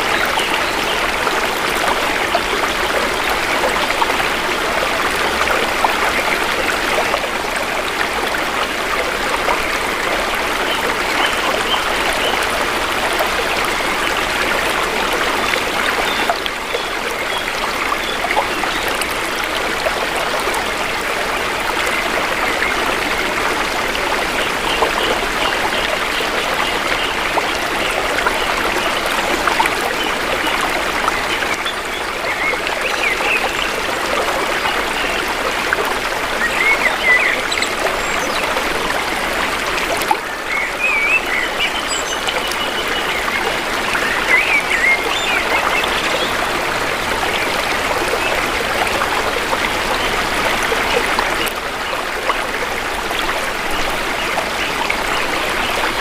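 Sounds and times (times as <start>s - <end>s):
water trickling over stones: 0.0s - 56.0s.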